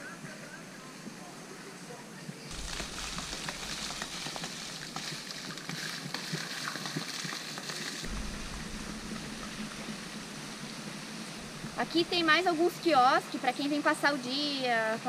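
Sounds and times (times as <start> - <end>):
outdoor ambience: 0.0 - 15.0
water jets splashing: 2.5 - 15.0.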